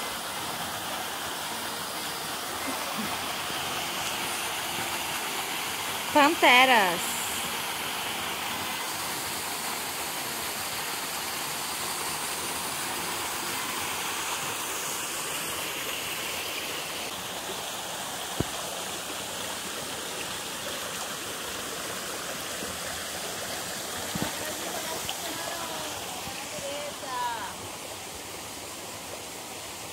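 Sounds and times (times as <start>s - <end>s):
waterfall rushing into pool: 0.0s - 29.9s.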